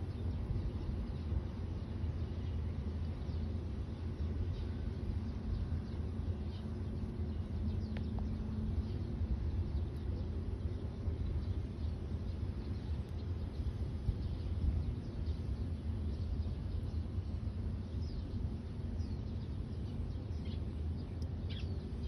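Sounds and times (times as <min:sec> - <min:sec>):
faint distant bird chirps: 0:00.0 - 0:22.0
steady low rumble: 0:00.0 - 0:22.0.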